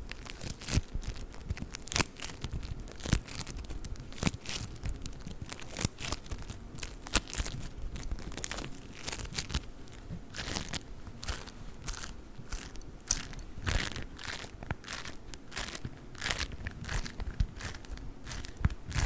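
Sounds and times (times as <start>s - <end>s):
foam beads crunching: 0.0s - 19.0s.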